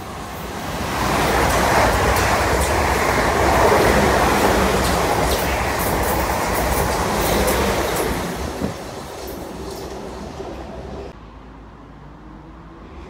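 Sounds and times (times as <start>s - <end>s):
train wheel and rail rush: 0.0s - 11.2s
wheels clicking over rail joints: 0.0s - 11.2s.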